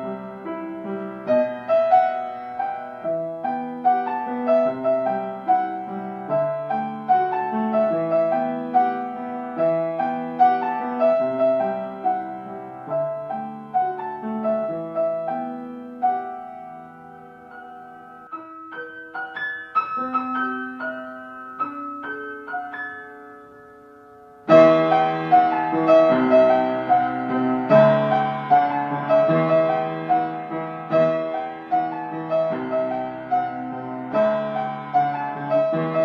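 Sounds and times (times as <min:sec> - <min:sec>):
solo piano music: 0:00.0 - 0:36.0.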